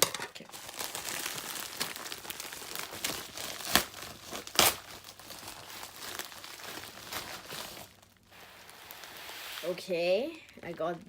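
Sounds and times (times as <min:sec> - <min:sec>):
packaging crinkling and rustling: 0:00.0 - 0:11.0
sharp crackles: 0:00.6 - 0:10.9.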